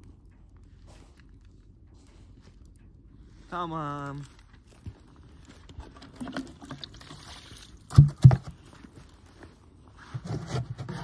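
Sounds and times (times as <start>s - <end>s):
rustling and handling noises: 0.4s - 11.0s.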